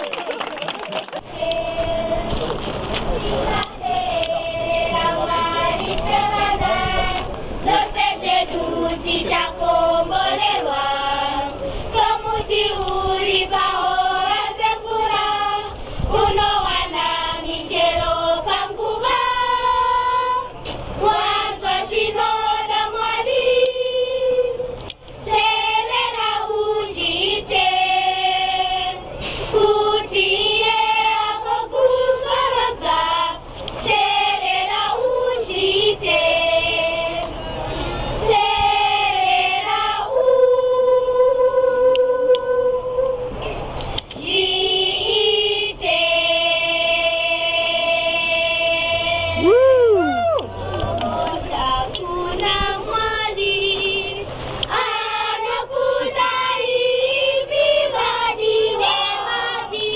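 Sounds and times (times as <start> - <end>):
children singing in chorus: 3.4 - 37.5, 38.2 - 43.3, 44.2 - 49.4, 50.6 - 59.9.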